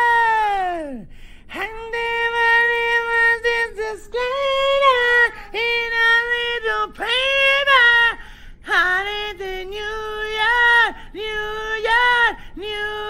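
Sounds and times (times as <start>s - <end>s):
person singing unaccompanied: 0.0s - 13.0s.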